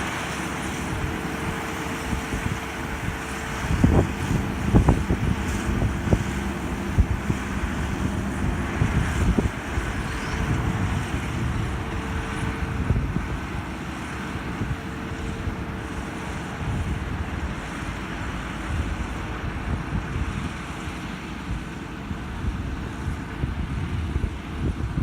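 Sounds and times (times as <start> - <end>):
combine harvester running: 0.0 - 25.0.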